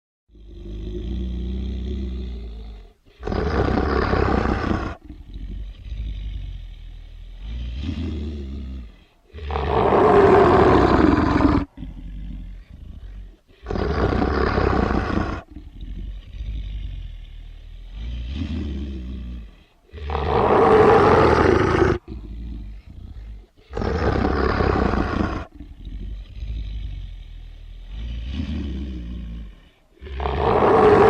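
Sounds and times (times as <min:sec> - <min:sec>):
deep monster growls: 0:00.3 - 0:31.0.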